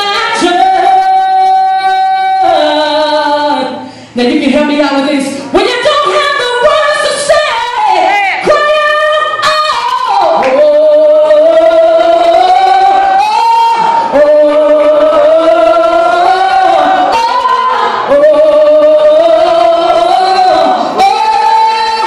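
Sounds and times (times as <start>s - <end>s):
woman singing gospel: 0.0s - 22.0s.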